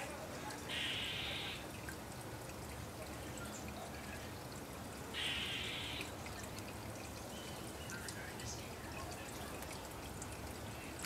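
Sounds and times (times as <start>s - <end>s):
bird splashing water: 0.0s - 11.0s
water drips and ticks: 0.0s - 11.0s.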